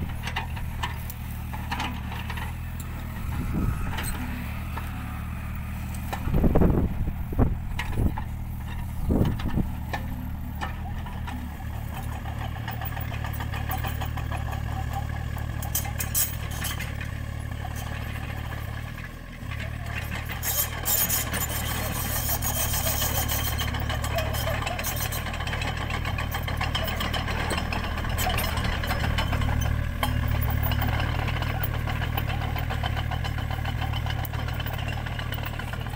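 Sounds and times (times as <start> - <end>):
excavator diesel engine running: 0.0 - 35.9
tracks clicking and rattling: 0.0 - 35.9.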